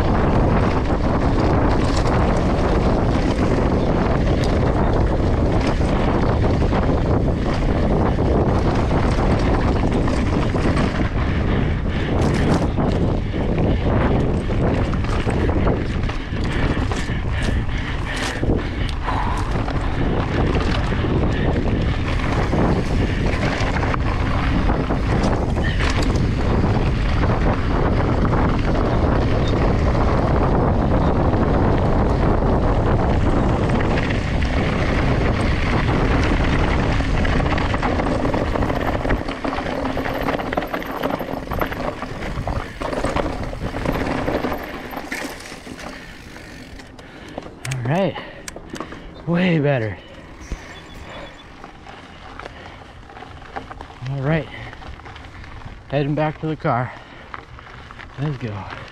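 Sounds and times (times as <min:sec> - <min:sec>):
bike rattles and knocks: 0:00.0 - 0:58.9
tyres rolling over dirt: 0:00.0 - 0:58.9
wind buffeting microphone: 0:00.0 - 0:58.9.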